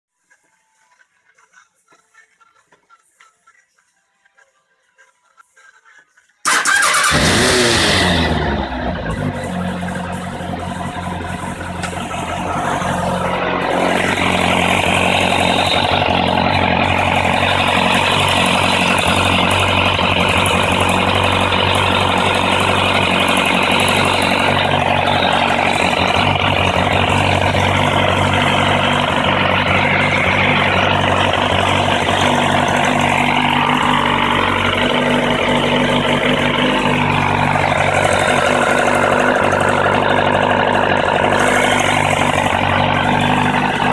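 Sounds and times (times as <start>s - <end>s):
motorcycle engine idling: 6.5s - 43.9s.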